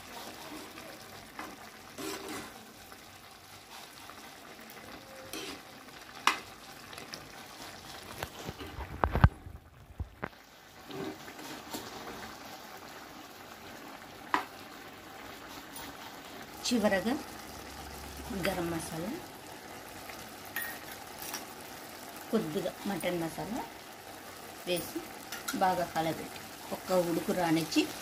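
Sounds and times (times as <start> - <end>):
curry simmering and sizzling: 0.0 - 28.0.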